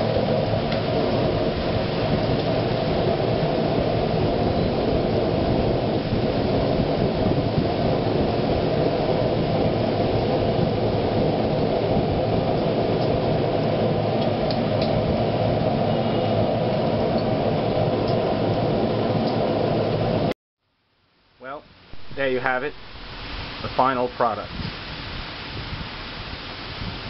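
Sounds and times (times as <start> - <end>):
steady rushing noise: 0.0 - 20.4, 21.2 - 27.0.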